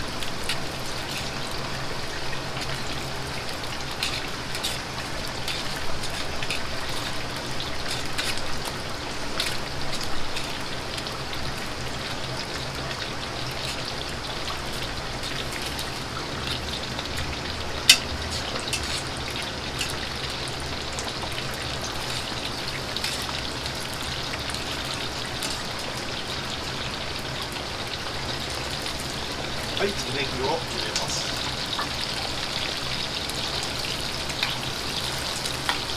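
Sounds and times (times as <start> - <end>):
deep-frying sizzle in oil: 0.0 - 35.9.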